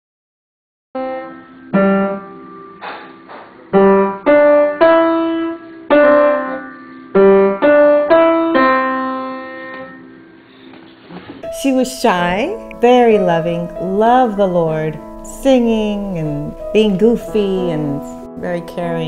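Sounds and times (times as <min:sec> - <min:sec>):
slow piano melody: 0:01.0 - 0:19.0.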